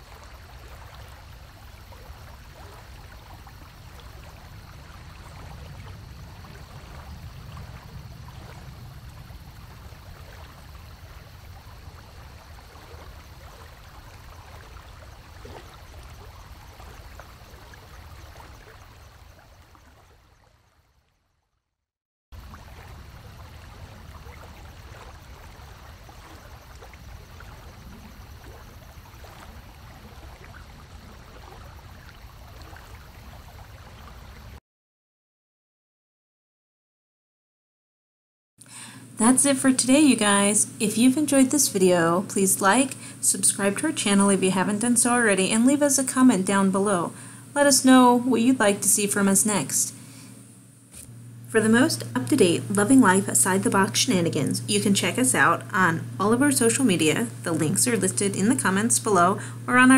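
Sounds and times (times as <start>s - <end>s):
aquarium water rushing: 0.0s - 20.5s, 22.4s - 34.6s, 38.8s - 59.9s.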